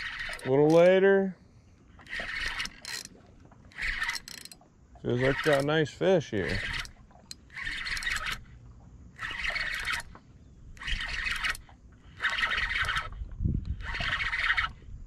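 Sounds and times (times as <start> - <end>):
fishing reel cranking: 0.0 - 1.3, 1.9 - 14.9.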